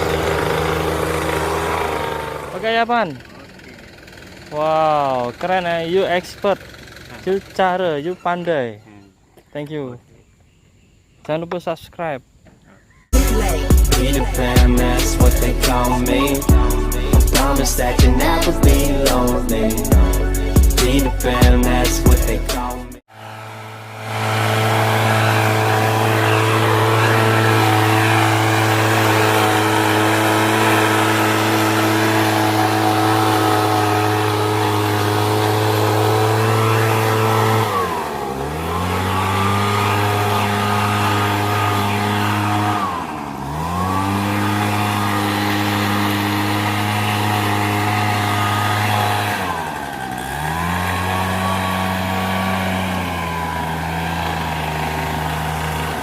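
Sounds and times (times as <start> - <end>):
leaf blower engine: 0.0 - 8.6, 13.1 - 56.0.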